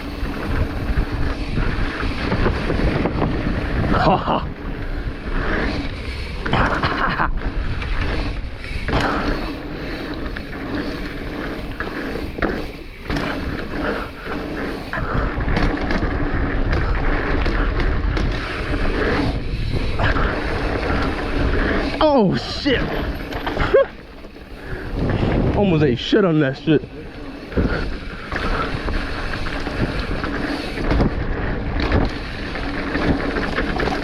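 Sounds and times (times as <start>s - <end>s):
bike rattling over bumps: 0.0s - 34.0s
bike tyres rolling on dirt: 0.0s - 34.0s
wind buffeting microphone: 0.0s - 34.0s.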